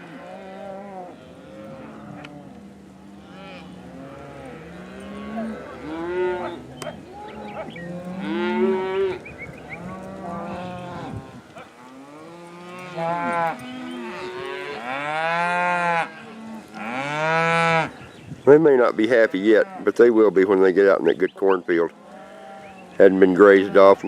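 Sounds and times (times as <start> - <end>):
cows mooing and bawling: 0.0 - 18.0, 18.8 - 20.1, 21.8 - 24.0.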